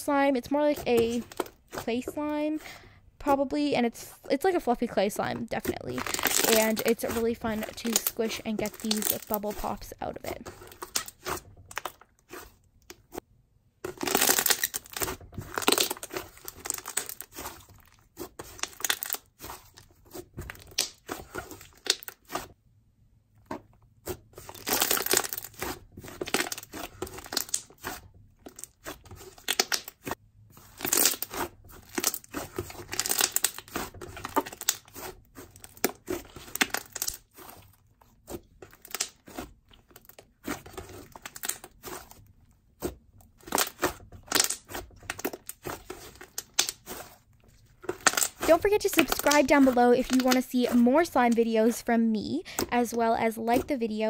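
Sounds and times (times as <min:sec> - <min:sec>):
slime squelching: 0:00.0 - 0:13.2, 0:13.8 - 0:22.6, 0:23.4 - 0:54.0.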